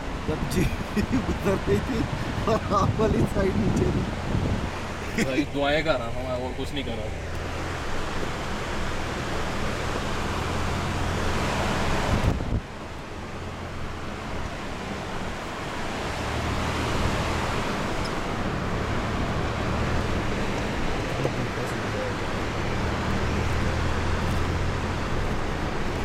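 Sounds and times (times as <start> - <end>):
jeep engine humming: 0.0 - 26.0.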